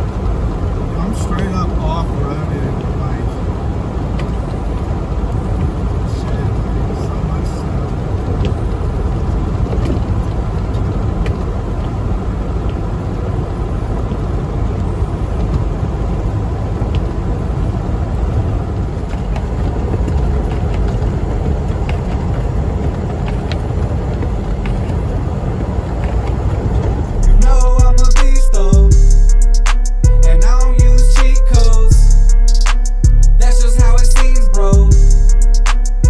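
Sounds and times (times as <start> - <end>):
road noise: 0.0 - 36.0
truck engine rumble: 0.0 - 36.0.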